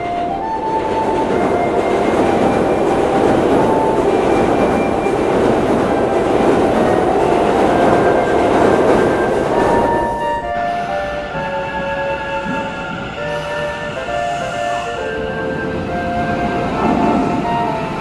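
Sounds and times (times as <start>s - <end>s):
electric train running past: 0.0s - 18.0s.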